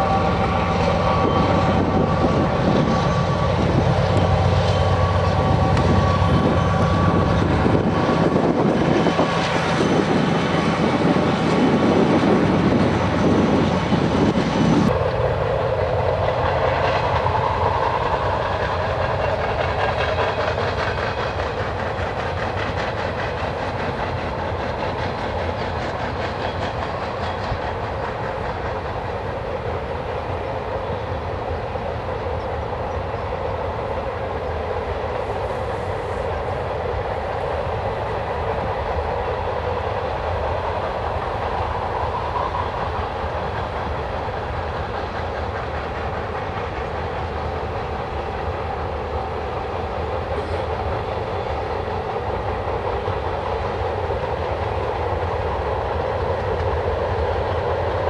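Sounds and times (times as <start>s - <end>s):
wheels clacking over rail joints: 0.0s - 31.3s, 37.3s - 58.0s
freight train cars rolling: 0.0s - 58.0s.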